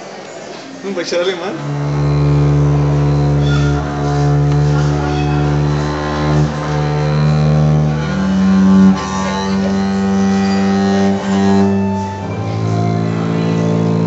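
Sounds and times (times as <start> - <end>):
bowed double bass notes: 1.4 - 14.0.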